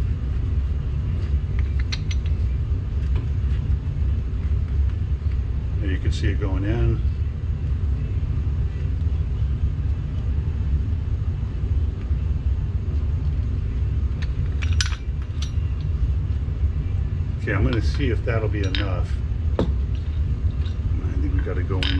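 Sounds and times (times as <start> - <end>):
low background rumble: 0.0 - 21.9.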